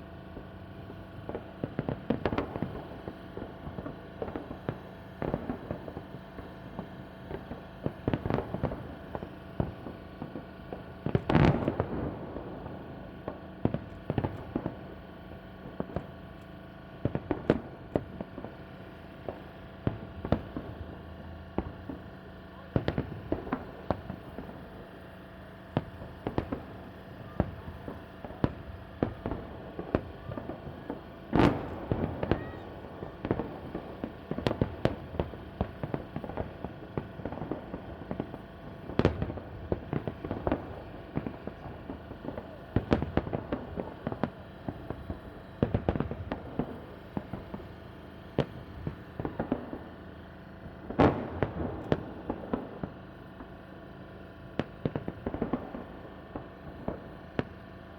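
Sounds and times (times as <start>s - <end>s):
small firework pops: 0.0s - 57.9s
firework shells bursting: 0.2s - 57.7s.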